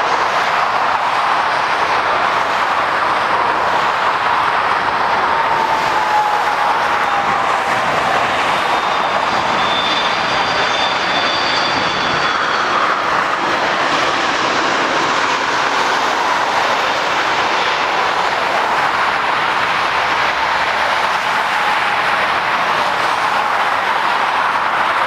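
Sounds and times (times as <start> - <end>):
jet engines roaring: 0.0 - 25.0
faint high whine: 0.3 - 21.0.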